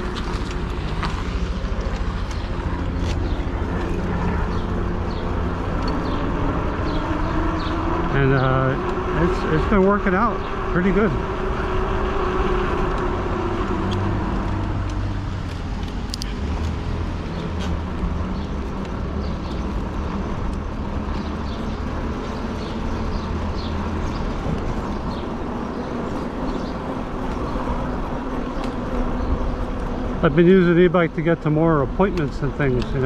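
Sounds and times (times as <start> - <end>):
bike tire rolling on pavement: 0.0 - 33.0.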